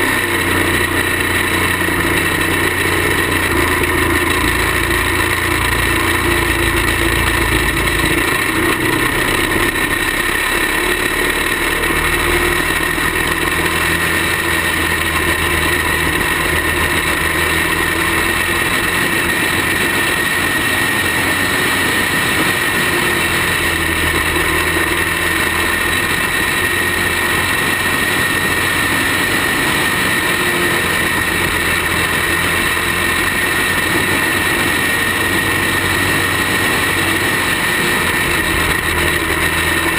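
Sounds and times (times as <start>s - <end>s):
kart engine droning: 0.0s - 39.9s.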